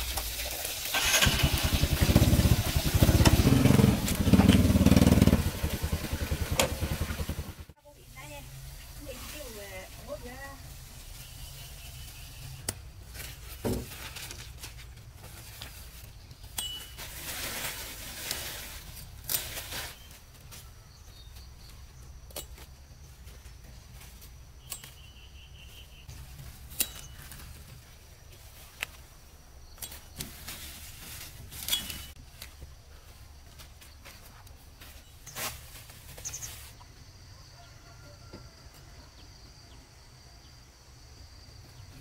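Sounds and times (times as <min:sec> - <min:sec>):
leaves rustling: 0:00.0 - 0:21.4, 0:23.1 - 0:36.8.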